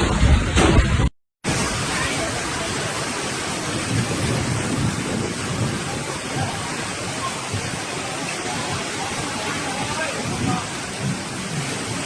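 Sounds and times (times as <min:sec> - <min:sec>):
heavy rain: 0:00.0 - 0:12.0
wind buffeting microphone: 0:00.0 - 0:12.0.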